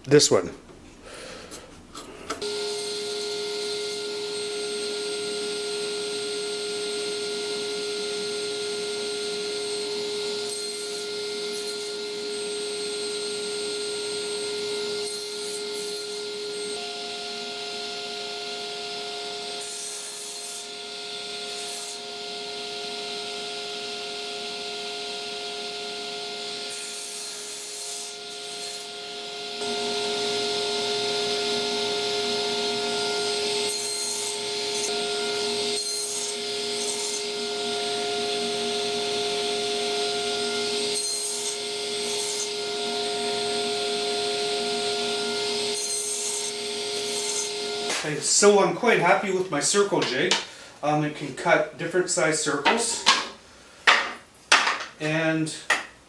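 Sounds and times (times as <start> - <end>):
table saw whining: 2.3 - 50.5.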